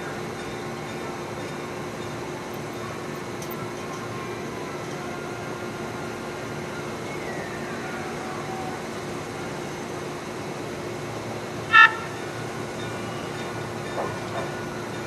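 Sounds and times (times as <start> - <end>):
train wash machine hum and hiss: 0.0 - 15.0.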